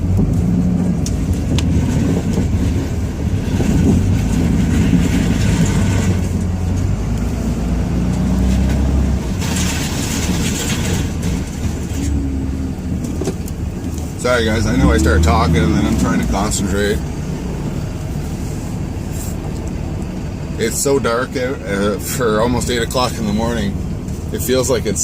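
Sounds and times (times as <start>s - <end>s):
diesel truck engine under load: 0.0s - 25.0s.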